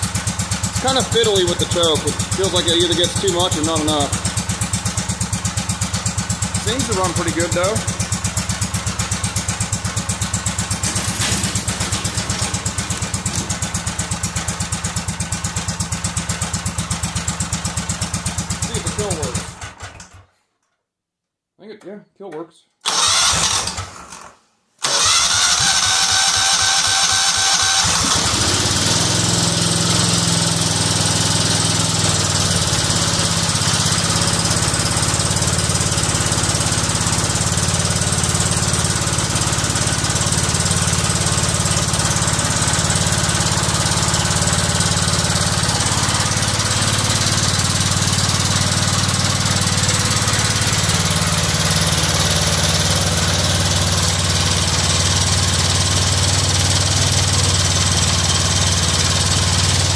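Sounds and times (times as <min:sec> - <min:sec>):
engine cranking and running: 0:00.0 - 0:20.4, 0:22.8 - 0:59.9.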